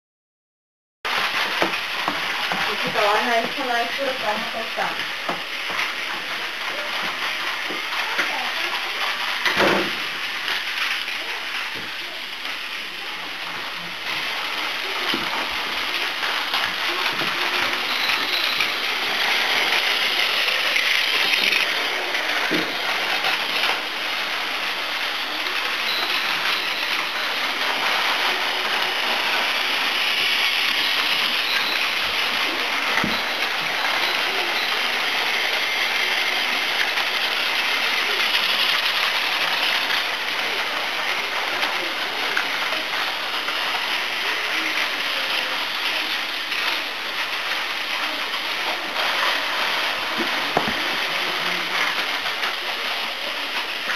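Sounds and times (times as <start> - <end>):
toy trains whirring and rattling: 1.1 - 53.9.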